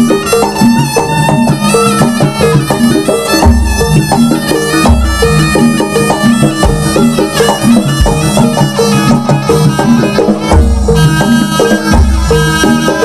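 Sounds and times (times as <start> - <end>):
hand drums: 0.0 - 13.0
metal percussion: 0.0 - 13.0
shrill reedy shawm melody: 0.0 - 13.0.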